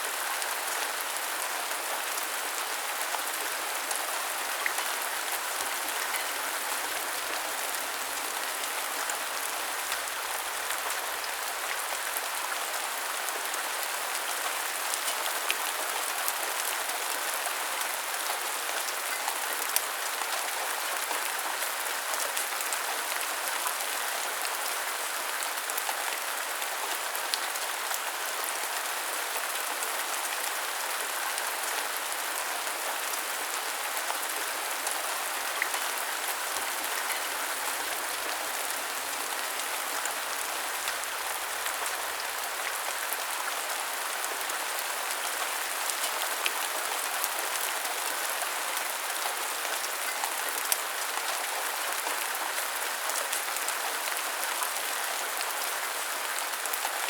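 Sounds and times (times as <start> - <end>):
rain pattering on hard surfaces: 0.1 - 57.0.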